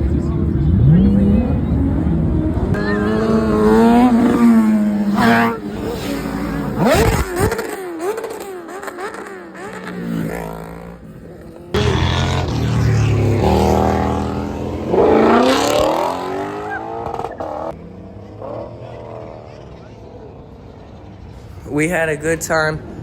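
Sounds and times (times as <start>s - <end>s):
loud engine revving: 0.0s - 19.7s
car engines revving: 0.0s - 23.0s.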